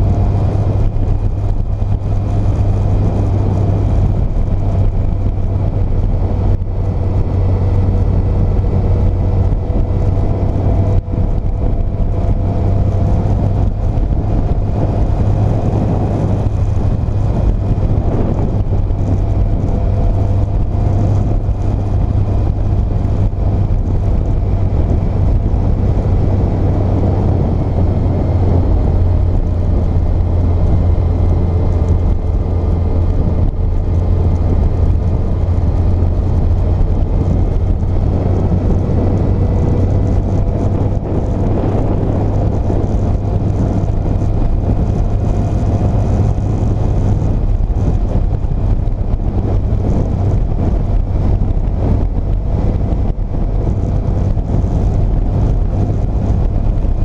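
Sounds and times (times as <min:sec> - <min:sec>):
motorcycle engine running: 0:00.0 - 0:57.0
road noise: 0:00.0 - 0:57.0.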